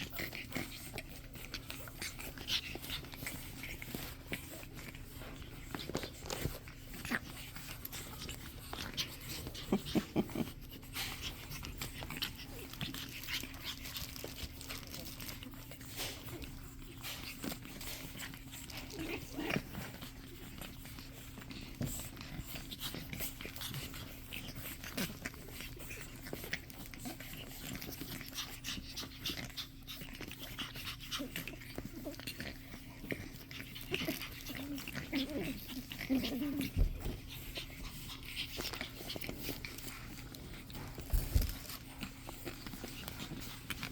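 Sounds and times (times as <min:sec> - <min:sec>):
puppies panting: 0:00.0 - 0:43.9
puppies scuffling and scratching: 0:00.0 - 0:43.9
puppy whine: 0:00.0 - 0:43.9.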